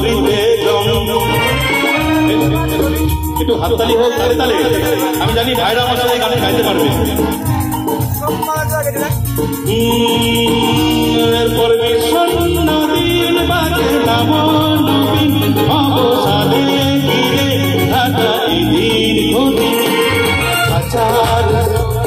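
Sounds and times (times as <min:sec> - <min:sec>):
live band music: 0:00.0 - 0:22.0
man singing: 0:00.0 - 0:22.0.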